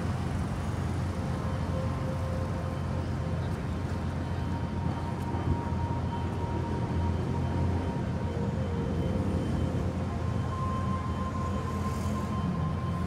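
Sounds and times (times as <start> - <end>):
city traffic rumble: 0.0 - 13.0
faint steady tone: 0.0 - 13.0.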